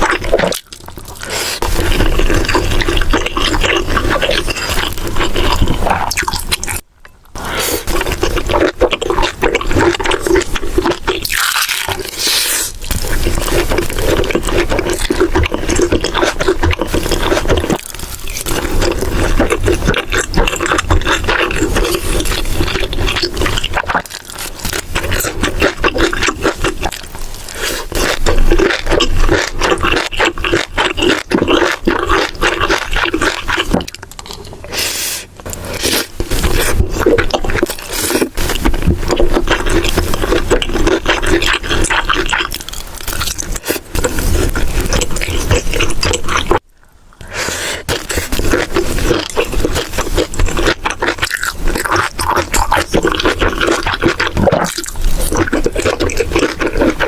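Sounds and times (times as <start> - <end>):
wet chewing and smacking: 0.0 - 6.8, 7.8 - 34.8, 35.4 - 46.6, 47.8 - 57.0.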